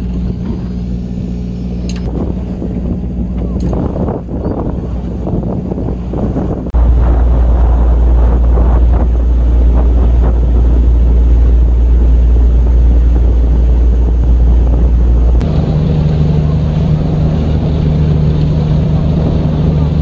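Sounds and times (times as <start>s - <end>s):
boat engine: 0.0s - 20.0s
water noise: 0.0s - 20.0s
wind buffeting microphone: 0.0s - 20.0s.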